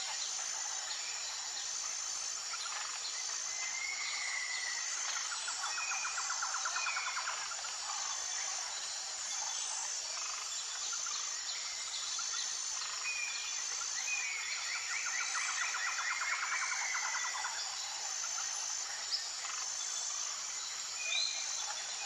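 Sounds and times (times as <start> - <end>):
high-pitched background hiss: 0.0 - 22.0.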